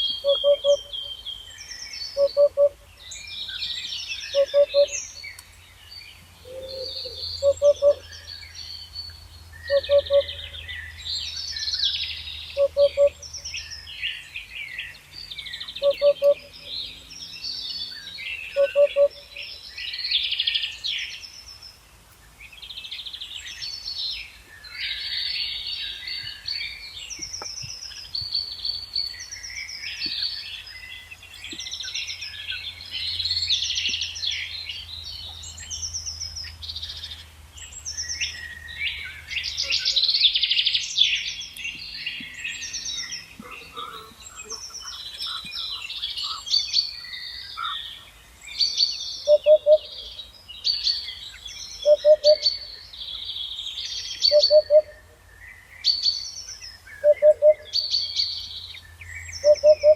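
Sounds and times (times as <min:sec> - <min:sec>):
songbirds chorus: 0:00.0 - 0:59.9.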